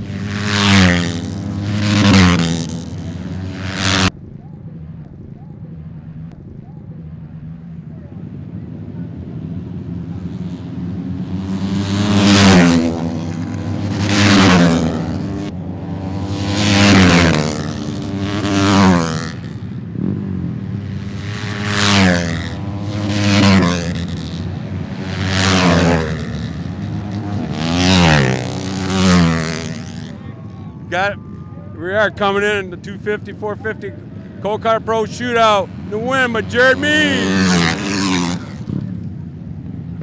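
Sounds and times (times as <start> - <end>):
motorcycles passing close by: 0.0 - 40.0.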